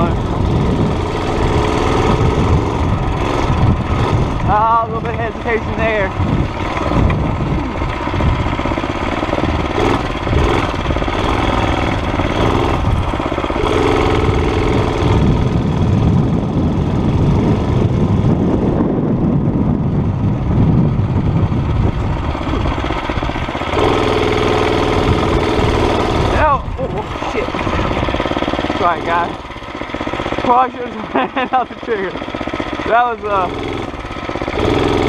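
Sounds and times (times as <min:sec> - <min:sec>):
small mini bike engine running: 0:00.0 - 0:35.0.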